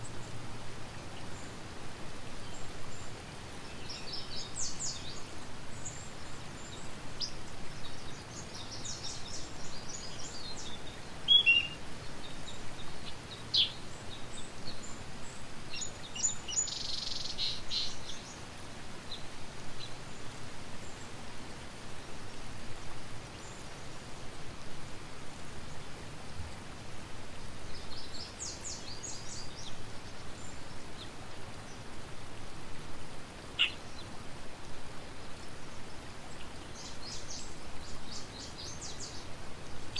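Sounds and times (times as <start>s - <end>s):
small birds chirping: 0.0s - 22.0s, 25.4s - 39.9s
outdoor background hiss: 0.0s - 39.9s.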